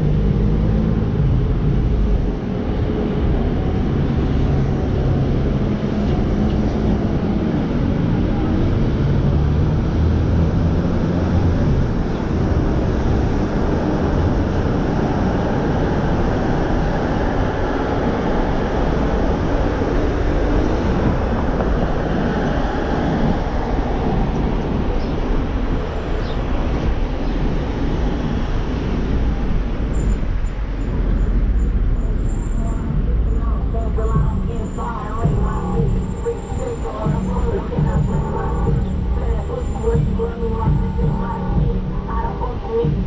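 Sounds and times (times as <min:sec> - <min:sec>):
car driving on city streets: 0:00.0 - 0:43.0.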